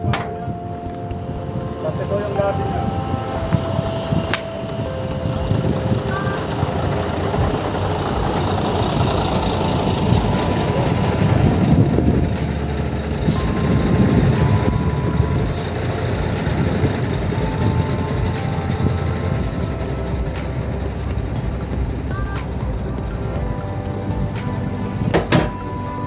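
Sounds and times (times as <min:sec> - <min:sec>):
heavy machine engine rumbling: 0:00.0 - 0:26.0.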